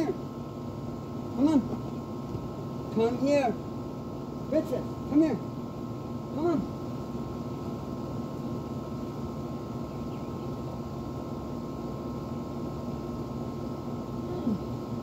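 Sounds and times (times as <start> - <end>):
air conditioner unit humming: 0.0 - 15.0.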